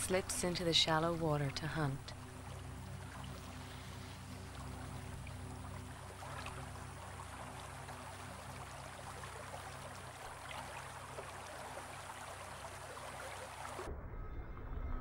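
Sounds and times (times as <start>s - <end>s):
stream trickling over stones: 0.0s - 13.9s
low steady hum: 0.0s - 15.0s.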